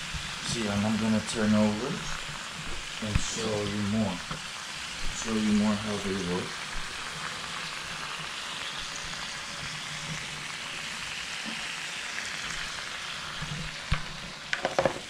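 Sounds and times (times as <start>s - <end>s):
lobsters sizzling on a grill: 0.0s - 15.0s.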